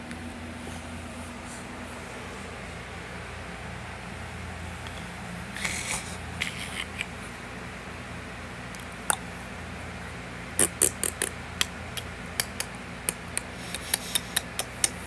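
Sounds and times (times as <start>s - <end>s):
low hum of room noise: 0.0s - 15.0s.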